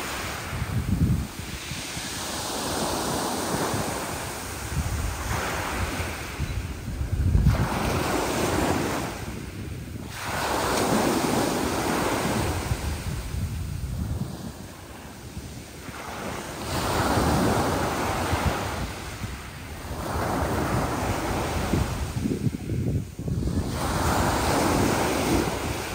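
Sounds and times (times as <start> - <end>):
sea waves breaking: 0.0 - 25.9
wind buffeting microphone: 0.0 - 25.9.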